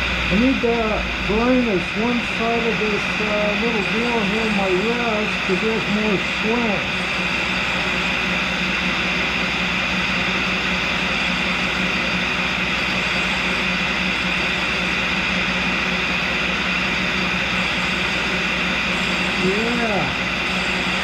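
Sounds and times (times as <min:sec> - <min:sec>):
dust vacuum running: 0:00.0 - 0:21.0
grinder running: 0:00.0 - 0:21.0.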